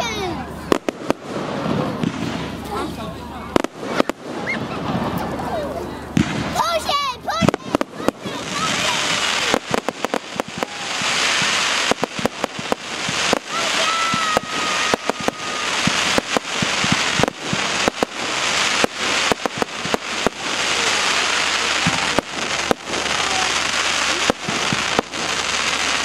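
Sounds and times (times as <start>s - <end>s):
fireworks bangs: 0.0s - 26.0s
fireworks crackling hiss: 0.0s - 26.0s.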